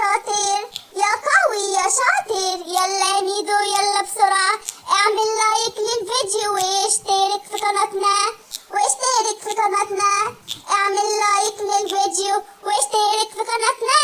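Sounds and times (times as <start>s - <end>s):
cartoon cat voice singing: 0.0s - 14.0s.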